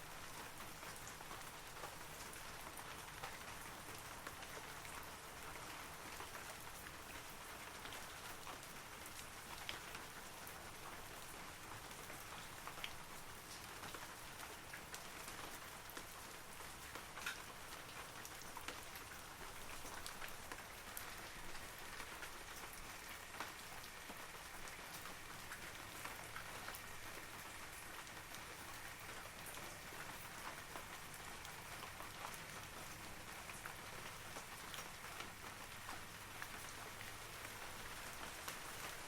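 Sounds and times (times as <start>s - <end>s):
rain falling on trees: 0.0s - 39.0s.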